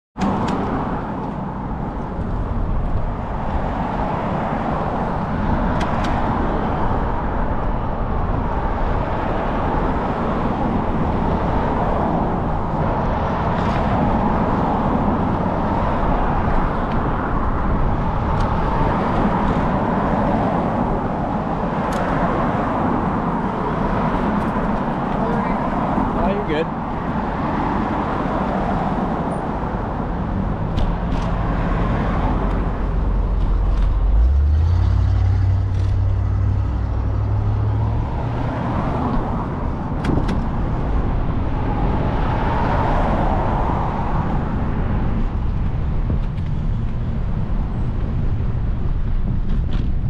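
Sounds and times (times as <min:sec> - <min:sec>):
rushing road and traffic noise: 0:00.2 - 0:50.0.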